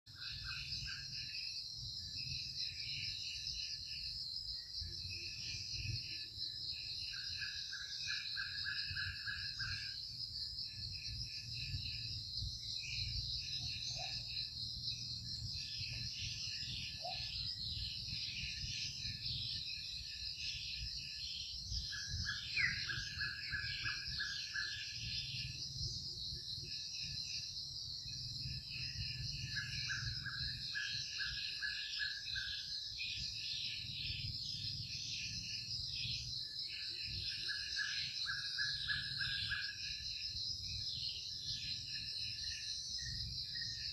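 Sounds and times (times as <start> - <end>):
insects droning: 0.1 - 43.9
rapid insect chirping: 0.1 - 43.9.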